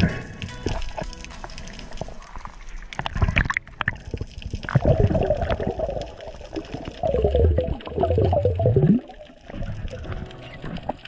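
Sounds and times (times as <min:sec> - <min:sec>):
low rumbling water movement: 0:00.0 - 0:11.0
underwater bubbling: 0:00.0 - 0:11.0.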